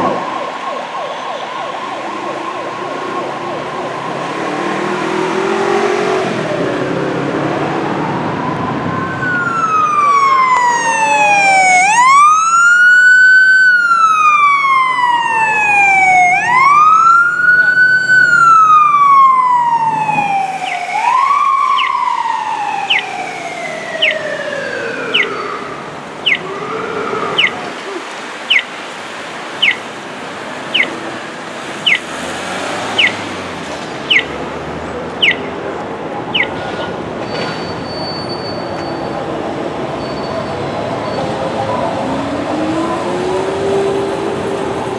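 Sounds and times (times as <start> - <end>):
emergency siren wailing: 0.0 - 33.4, 34.0 - 36.6, 38.6 - 44.9.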